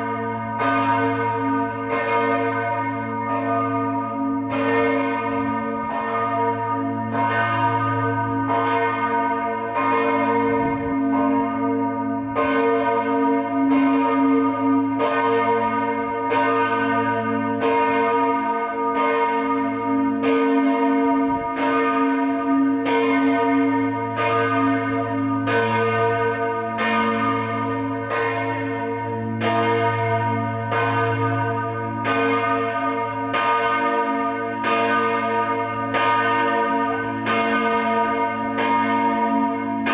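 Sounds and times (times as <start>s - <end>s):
church bell tolling: 0.0s - 39.9s.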